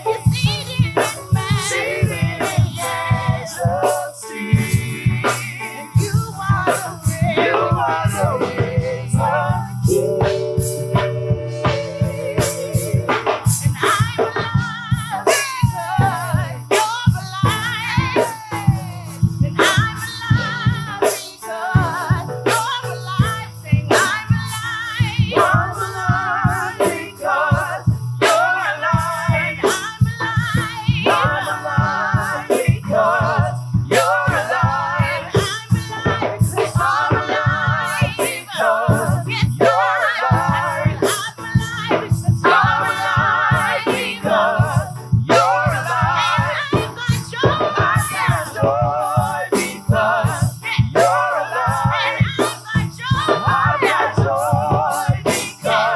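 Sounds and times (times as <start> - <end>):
band with drums and bass: 0.0 - 55.9
singers singing gospel: 0.0 - 55.9.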